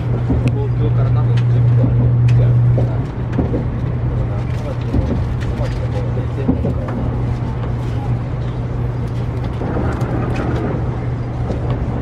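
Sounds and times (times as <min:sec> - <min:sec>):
faint passenger voices: 0:00.0 - 0:12.0
train cabin low hum: 0:00.0 - 0:12.0.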